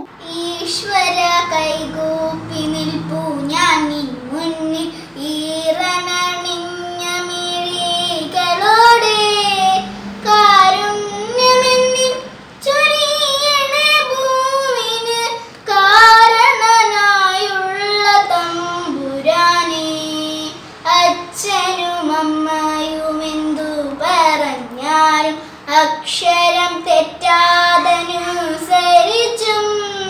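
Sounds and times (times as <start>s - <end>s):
girl singing unaccompanied: 0.0s - 30.0s.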